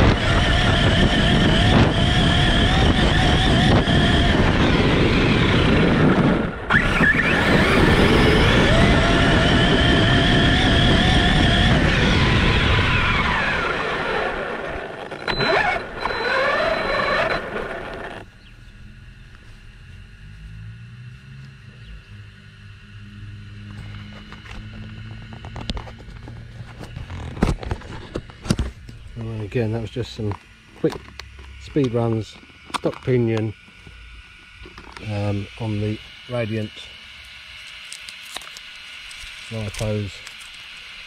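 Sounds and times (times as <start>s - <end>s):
electric motor whining: 0.0s - 41.0s.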